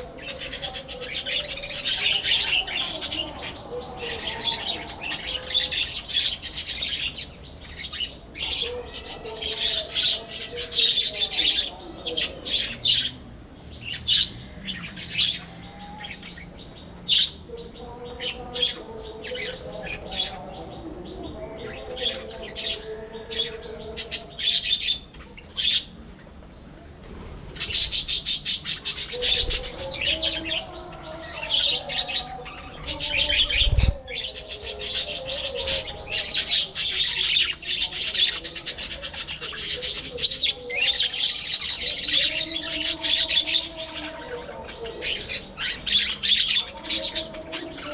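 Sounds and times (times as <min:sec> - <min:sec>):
budgerigars chirping and warbling: 0:00.0 - 0:26.7, 0:27.5 - 0:47.9.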